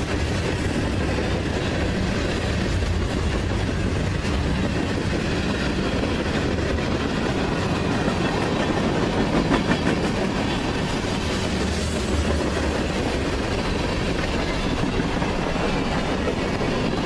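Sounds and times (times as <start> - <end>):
steel wheels rolling on rails: 0.0 - 17.0.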